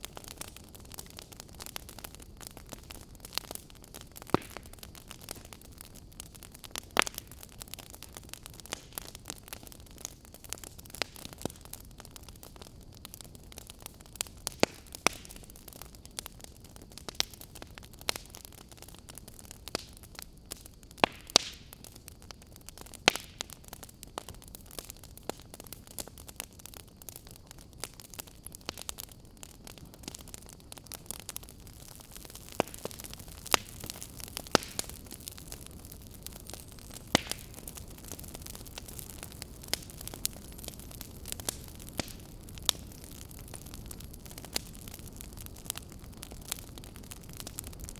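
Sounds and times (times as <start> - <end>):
fire crackling in a fireplace: 0.0 - 47.9.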